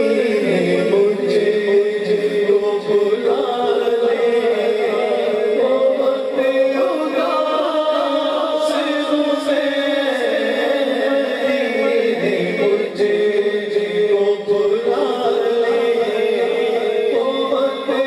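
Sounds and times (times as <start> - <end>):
men singing through a microphone: 0.0 - 18.0.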